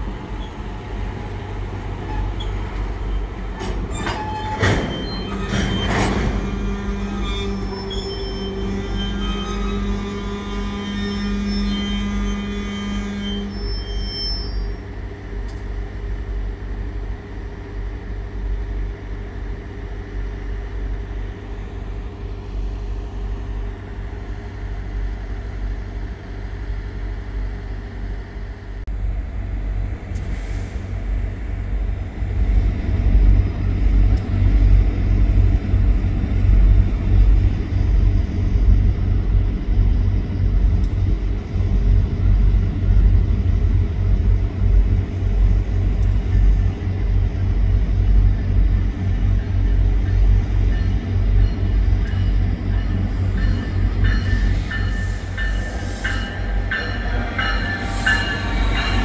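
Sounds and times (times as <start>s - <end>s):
diesel train rumble: 0.0s - 59.0s.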